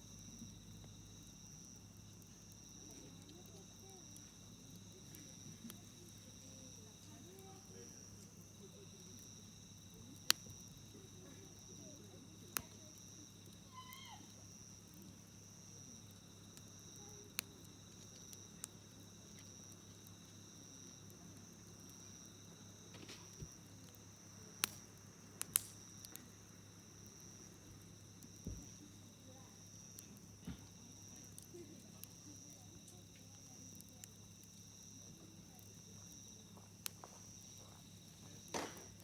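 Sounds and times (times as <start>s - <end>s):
crickets chirring: 0.0s - 39.0s
wood fire crackling and popping: 0.0s - 39.0s.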